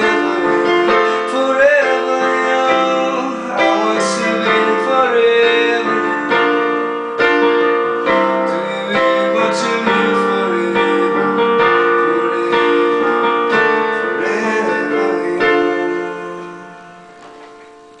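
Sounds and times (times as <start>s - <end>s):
young man singing: 0.0s - 17.6s
electronic keyboard piano chords: 0.0s - 18.0s.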